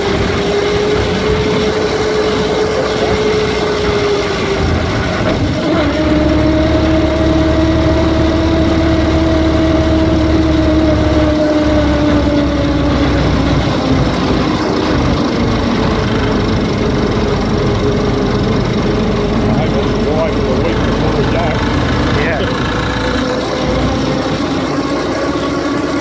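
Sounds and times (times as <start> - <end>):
car engine droning under load: 0.0 - 26.0.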